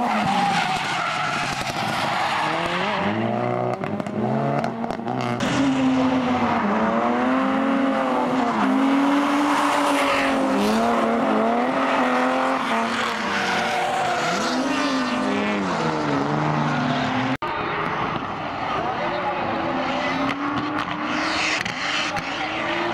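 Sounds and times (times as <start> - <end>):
car engines revving: 0.0 - 22.9.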